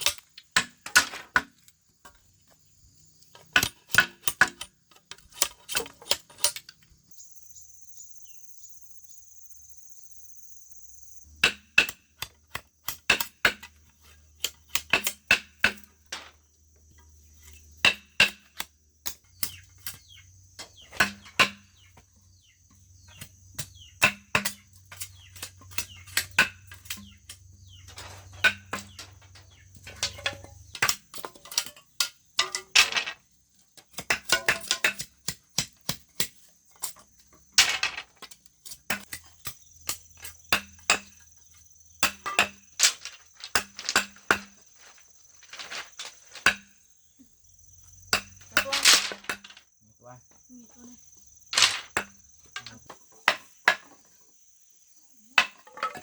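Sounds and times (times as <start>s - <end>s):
cricket chirring: 0.0s - 56.0s.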